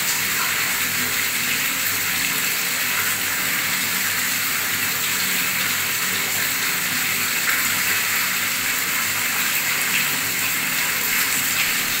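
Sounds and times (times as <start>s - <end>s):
tap water gushing into pool: 0.0s - 12.0s.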